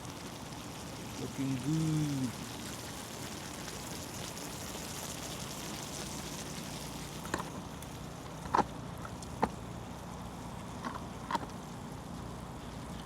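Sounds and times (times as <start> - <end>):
food sizzling over fire: 0.0 - 13.0.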